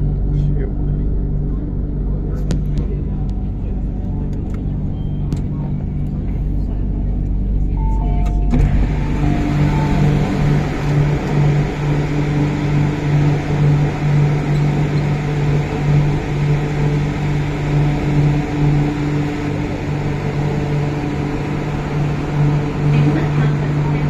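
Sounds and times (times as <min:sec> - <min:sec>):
constant low hum: 0:00.0 - 0:24.0
train wheels rumbling on track: 0:00.0 - 0:24.0.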